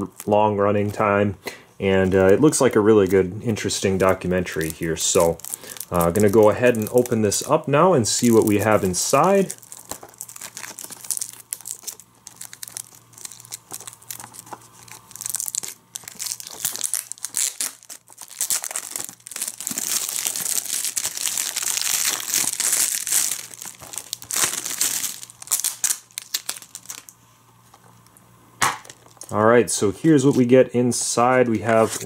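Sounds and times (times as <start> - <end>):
plastic wrap crinkling: 2.0 - 29.5.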